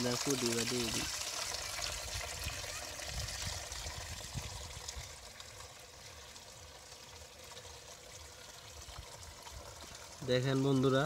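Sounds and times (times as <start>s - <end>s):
water pouring and trickling: 0.0s - 11.0s.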